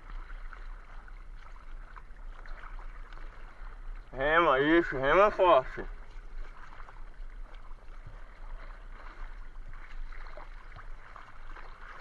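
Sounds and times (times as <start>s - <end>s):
sea water splashing: 0.0s - 12.0s.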